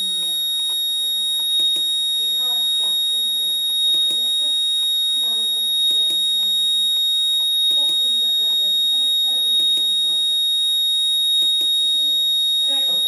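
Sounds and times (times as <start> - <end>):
high-pitched electronic tone: 0.0 - 13.0.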